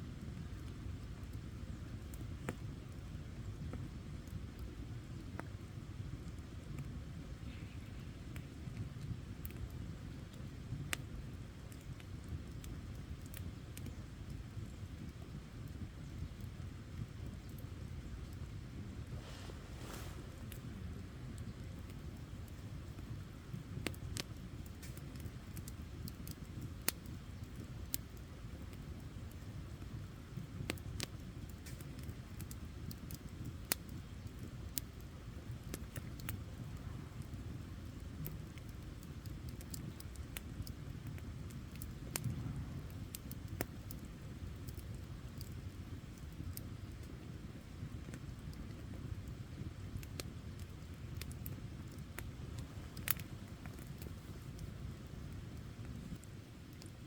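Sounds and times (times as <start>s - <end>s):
campfire crackling and popping: 0.0s - 57.0s
fire low rumble: 0.0s - 57.0s.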